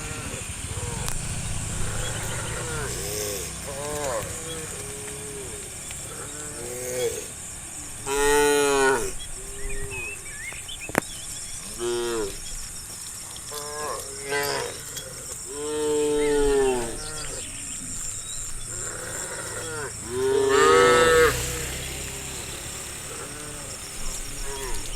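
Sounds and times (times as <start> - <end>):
cows mooing: 0.0 - 10.2, 11.7 - 12.4, 13.4 - 24.9.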